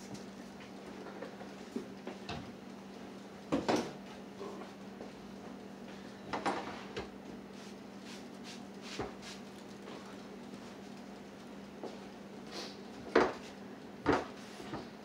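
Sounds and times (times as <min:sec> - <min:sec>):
air fryer humming: 0:00.0 - 0:15.0.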